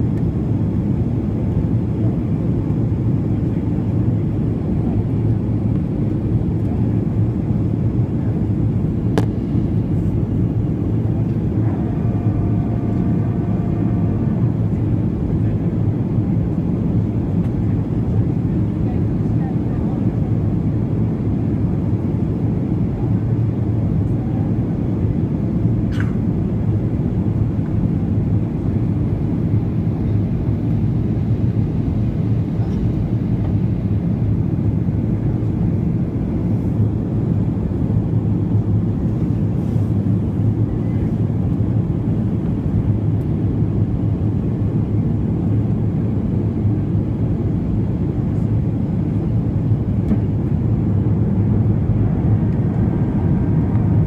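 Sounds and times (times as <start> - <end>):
jet airliner rumble: 0.0 - 54.0.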